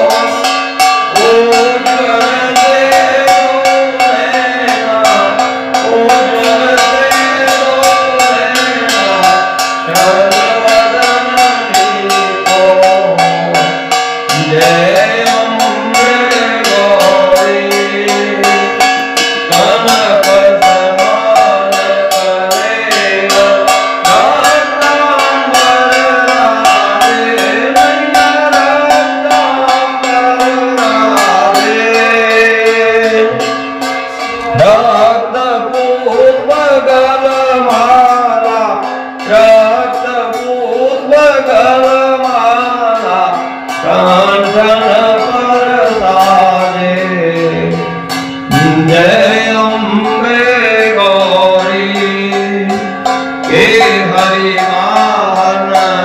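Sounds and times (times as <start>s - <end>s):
devotional singing: 0.0s - 56.0s.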